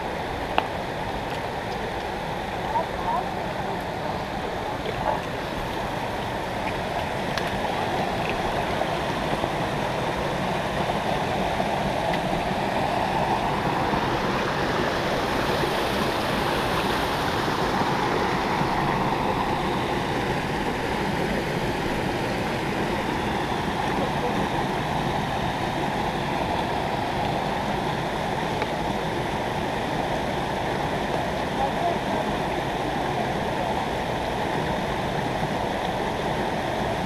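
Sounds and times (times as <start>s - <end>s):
stream running over rocks: 0.0s - 37.0s.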